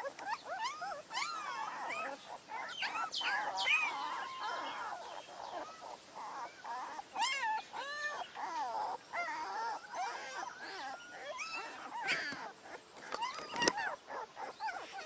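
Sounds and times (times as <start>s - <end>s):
puppies whining and whimpering: 0.0s - 15.0s.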